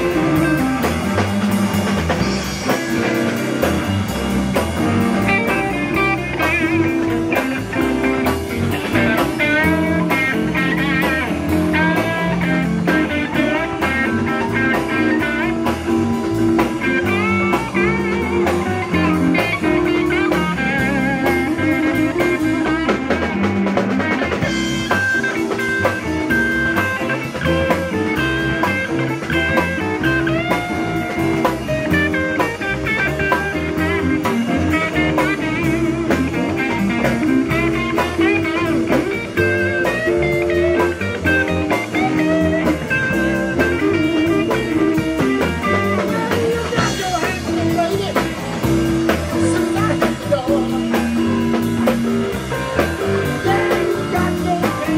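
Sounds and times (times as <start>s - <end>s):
bass guitar: 0.0s - 54.9s
drum kit: 0.0s - 54.9s
electric guitar solo: 0.0s - 54.9s.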